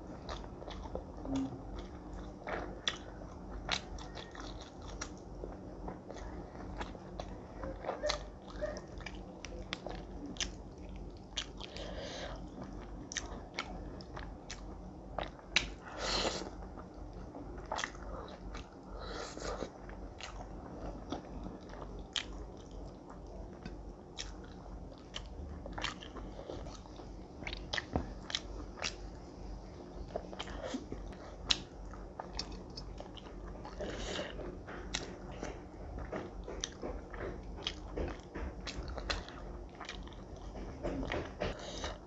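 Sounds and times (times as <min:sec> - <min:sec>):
person chewing food: 0:00.0 - 0:42.0.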